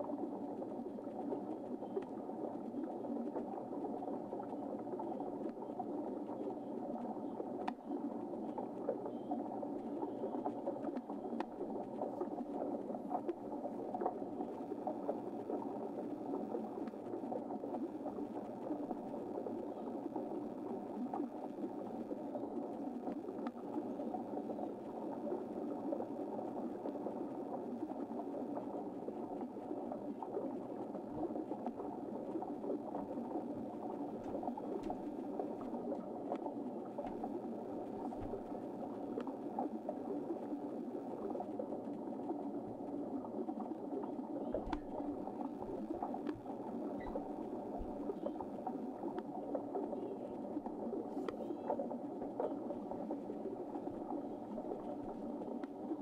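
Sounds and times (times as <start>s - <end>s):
muffled rush of water: 0.0s - 56.0s.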